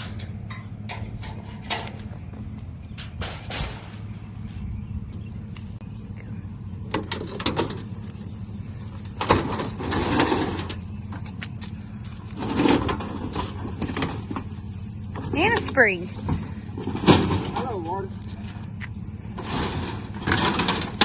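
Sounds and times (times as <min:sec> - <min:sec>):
scrap metal clanking and scraping: 0:00.0 - 0:04.7, 0:06.9 - 0:21.0
vehicle engine idling: 0:00.0 - 0:21.0.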